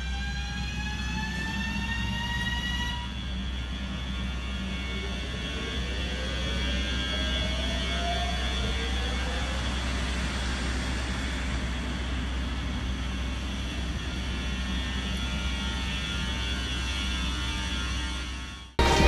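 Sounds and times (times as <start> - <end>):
electric locomotive rumble and whir: 0.0 - 19.0.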